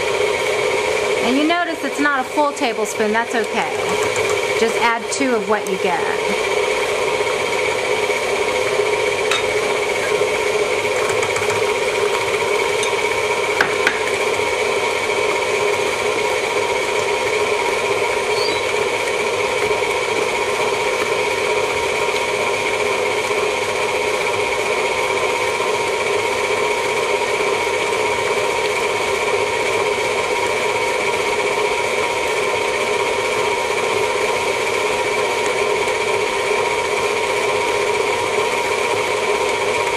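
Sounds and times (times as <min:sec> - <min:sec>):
stand mixer motor whine: 0:00.0 - 0:39.9.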